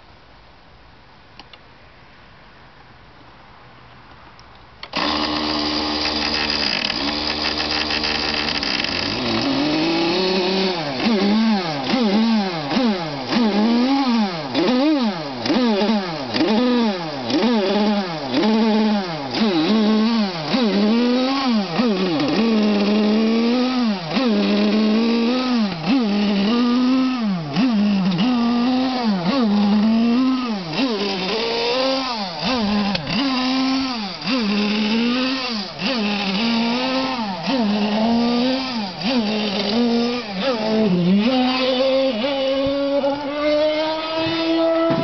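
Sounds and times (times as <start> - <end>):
small two-stroke engine running unevenly: 5.0 - 45.0.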